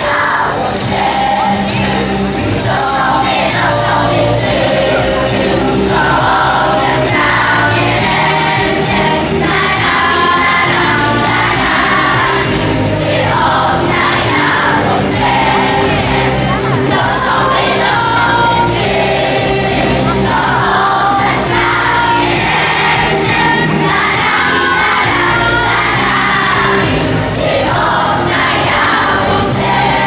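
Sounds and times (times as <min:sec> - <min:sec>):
choir singing a carol: 0:00.0 - 0:30.0
instrumental accompaniment: 0:00.0 - 0:30.0.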